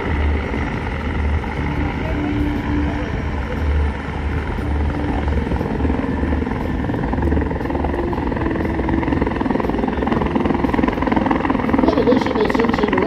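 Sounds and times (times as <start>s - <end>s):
helicopter rotor beat: 0.0s - 13.0s
turbine whine: 0.0s - 13.0s.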